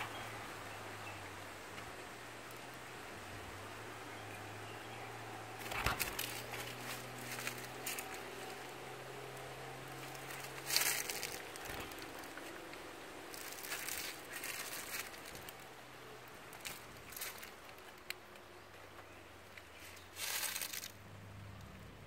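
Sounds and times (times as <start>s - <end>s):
leaves rustling and crinkling: 0.0s - 21.7s.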